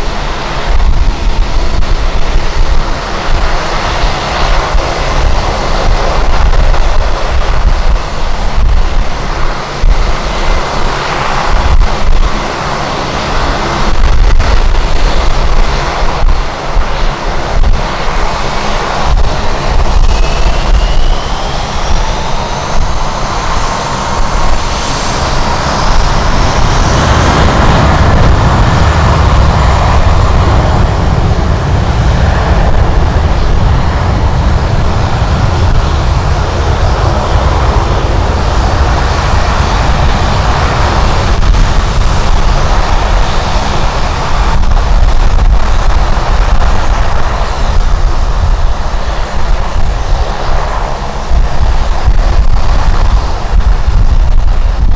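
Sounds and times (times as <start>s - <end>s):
jet engines whining and rumbling: 0.0s - 54.9s
wind buffeting microphone: 0.0s - 54.9s.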